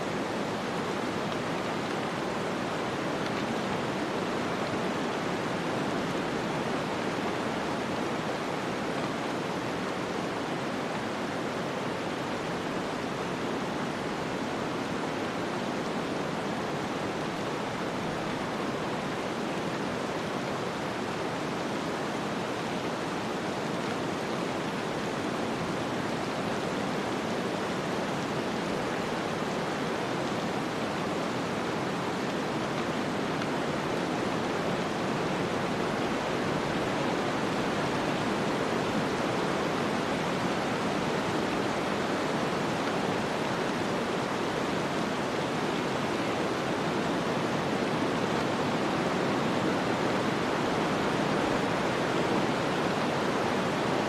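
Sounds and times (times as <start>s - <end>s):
wind rushing in a snowstorm: 0.0s - 54.0s.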